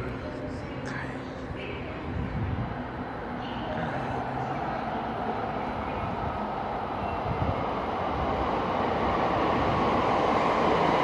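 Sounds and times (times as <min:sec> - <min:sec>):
electric train pulling into station: 0:00.0 - 0:11.0.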